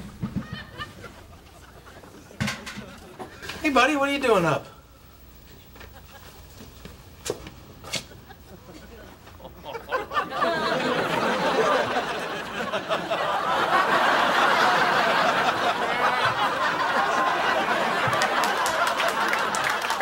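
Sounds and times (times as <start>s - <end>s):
audience laughing: 0.3s - 3.5s, 5.6s - 6.8s, 7.8s - 20.0s.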